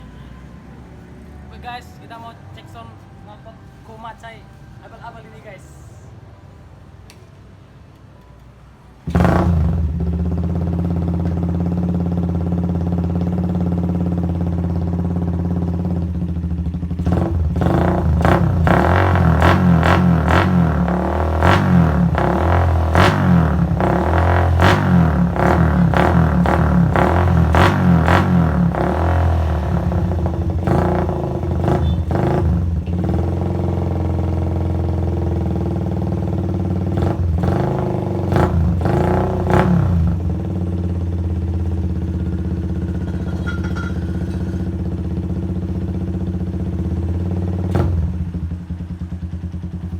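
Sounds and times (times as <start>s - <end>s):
motorcycle engine idling and revving: 9.0s - 49.9s.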